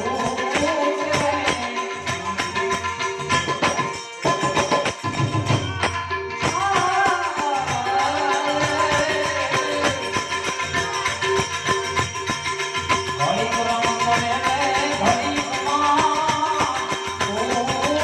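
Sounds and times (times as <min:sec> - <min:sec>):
hand percussion with jingles: 0:00.0 - 0:18.0.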